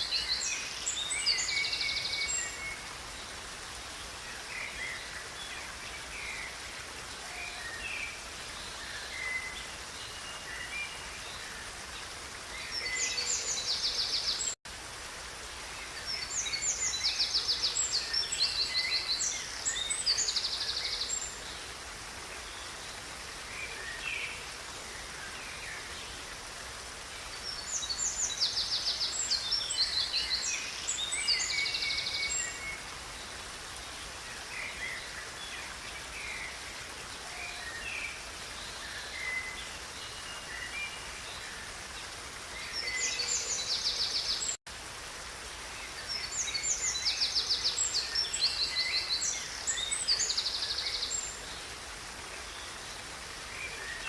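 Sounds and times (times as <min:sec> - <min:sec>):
songbirds singing: 0:00.0 - 0:14.6, 0:15.6 - 0:44.6, 0:45.6 - 0:54.0
river rushing: 0:00.0 - 0:54.0.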